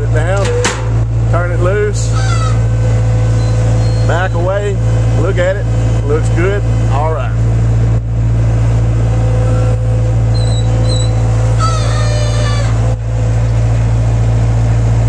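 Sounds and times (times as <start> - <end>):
loader engine low hum: 0.0 - 15.0.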